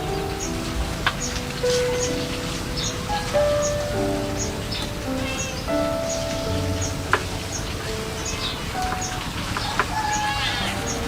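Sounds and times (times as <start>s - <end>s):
background music with sustained notes: 0.0s - 11.0s
steady hiss: 0.0s - 11.0s.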